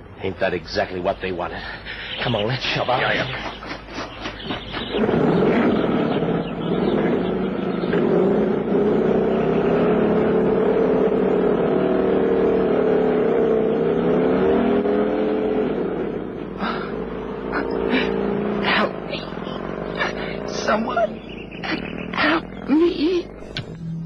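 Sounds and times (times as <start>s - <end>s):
motorcycle engines revving: 1.6s - 24.0s.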